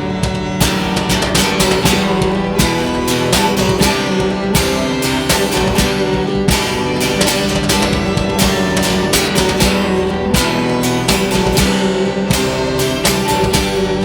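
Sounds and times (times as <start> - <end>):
steady drum beat: 0.0 - 14.0
strummed guitar: 0.0 - 14.0.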